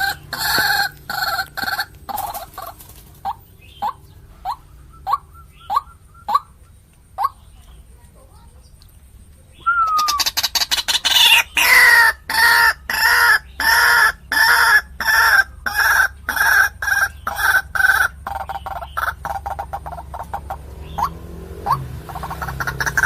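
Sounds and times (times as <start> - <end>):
waterhen calling harsh notes: 0.0 - 6.6, 9.6 - 23.0.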